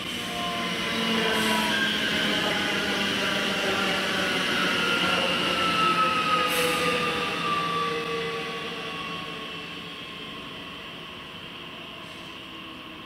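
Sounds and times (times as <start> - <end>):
electric train passing on rails: 0.0 - 13.0.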